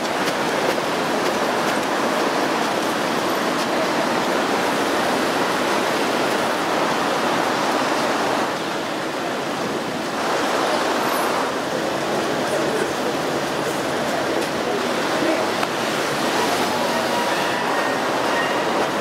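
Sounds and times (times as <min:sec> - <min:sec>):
passing pedestrians: 0:00.0 - 0:19.0
traffic: 0:00.0 - 0:19.0.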